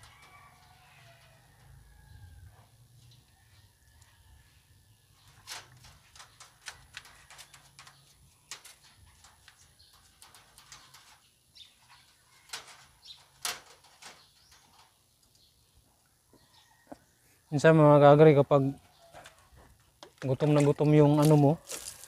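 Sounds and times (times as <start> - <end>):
scratching in rabbit hutch: 0.0 - 22.0.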